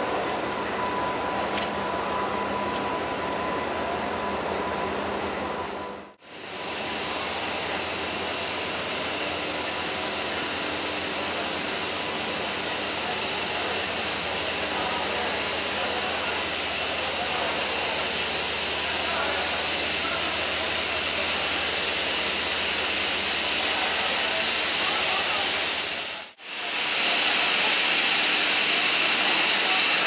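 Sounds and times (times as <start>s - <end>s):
train machinery hum: 0.0s - 30.0s.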